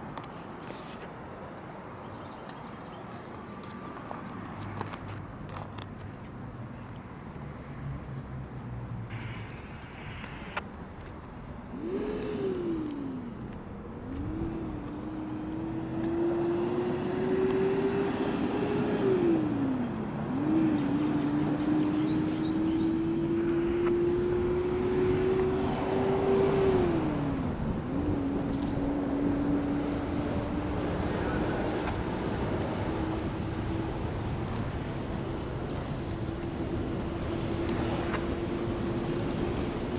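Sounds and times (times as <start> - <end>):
vehicle engine accelerating: 7.4 - 39.9.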